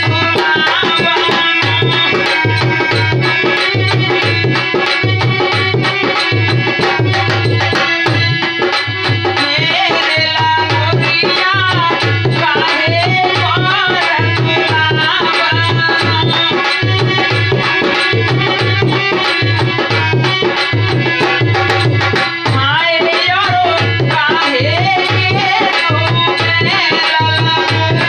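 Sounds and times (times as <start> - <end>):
dholak drum beating: 0.0 - 28.0
harmonium chords: 0.0 - 28.0
man singing: 0.0 - 28.0.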